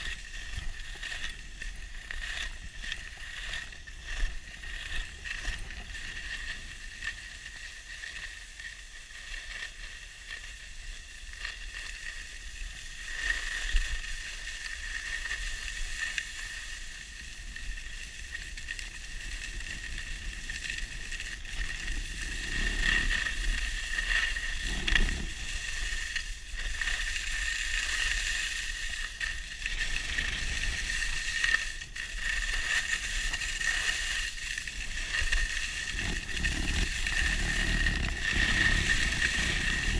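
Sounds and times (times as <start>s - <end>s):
skis sliding over snow: 0.0s - 39.9s
wind rumble on microphone: 0.0s - 39.9s.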